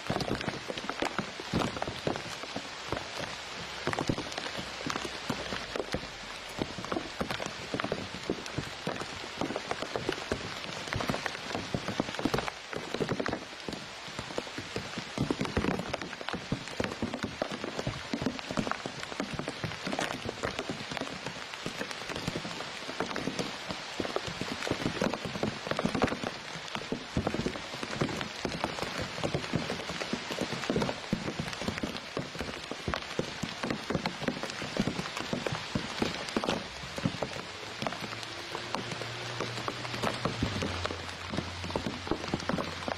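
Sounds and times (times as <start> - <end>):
rain pattering: 0.0 - 42.9.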